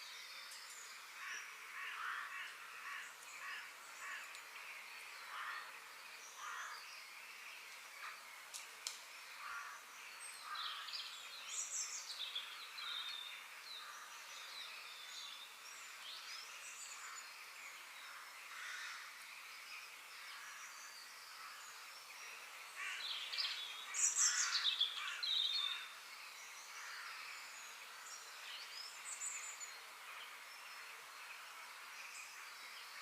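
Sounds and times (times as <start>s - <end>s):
birds chirping and singing: 0.0s - 33.0s.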